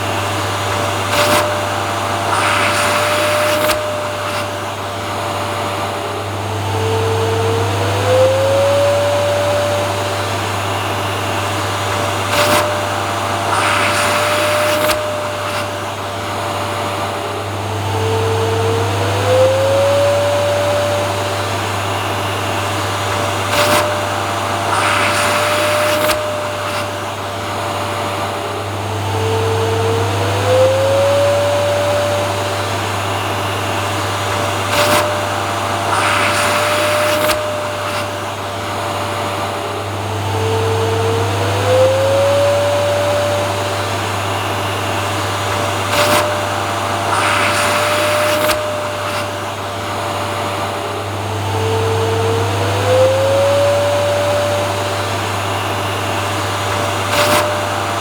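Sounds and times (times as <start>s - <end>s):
vacuum cleaner motor whining: 0.0s - 58.0s.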